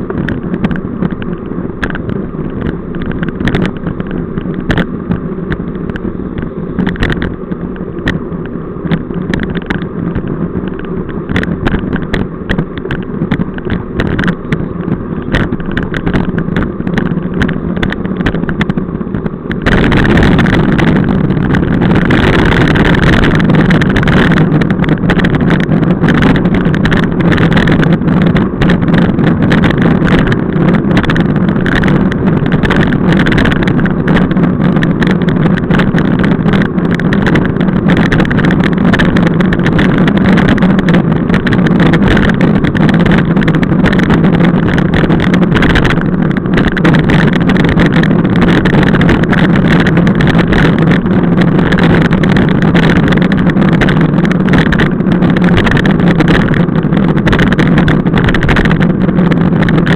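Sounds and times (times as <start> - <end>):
bike frame vibration: 0.0 - 59.9
road and tyre rumble: 0.0 - 59.9
wind rushing over microphone: 0.0 - 59.9.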